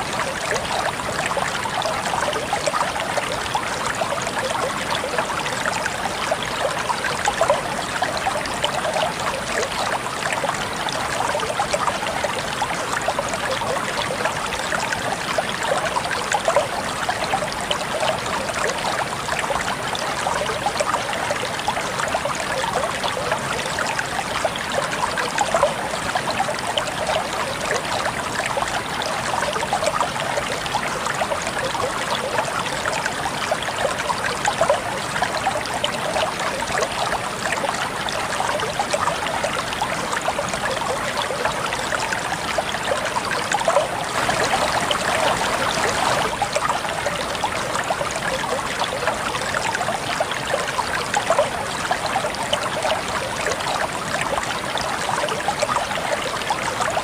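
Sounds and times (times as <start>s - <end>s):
water babbling over stones: 0.0s - 57.0s.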